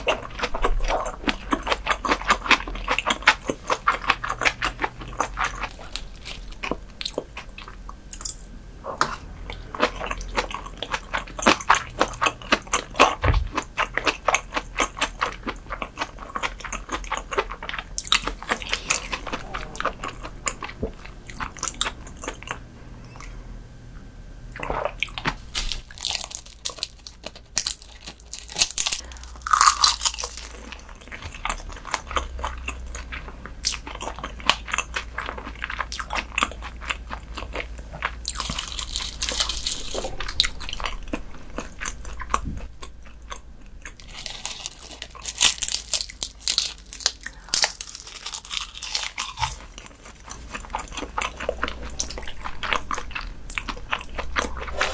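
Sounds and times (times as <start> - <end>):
chewing raw fish: 0.0 - 23.3, 24.6 - 54.9.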